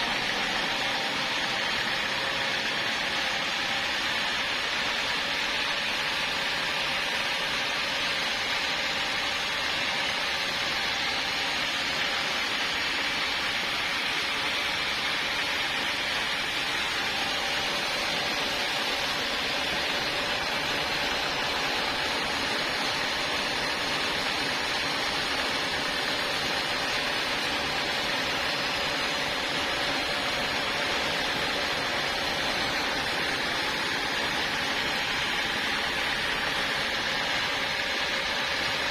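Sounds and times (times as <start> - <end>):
sawmill saw running: 0.0 - 38.9.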